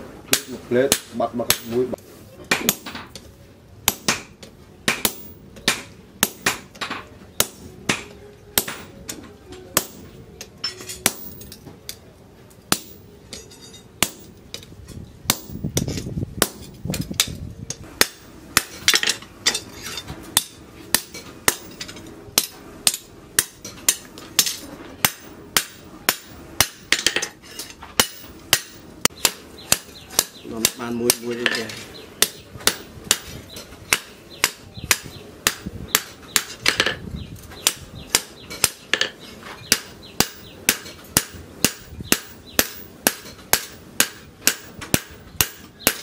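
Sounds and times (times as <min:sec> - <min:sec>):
hammer striking chisel on metal: 0:00.3 - 0:03.2, 0:03.8 - 0:12.0, 0:12.6 - 0:37.0, 0:37.6 - 0:46.0.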